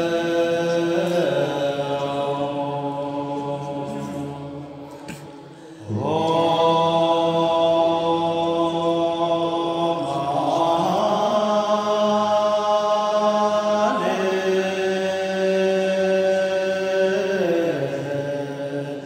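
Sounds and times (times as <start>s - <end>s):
person chanting mantra: 0.0s - 19.0s.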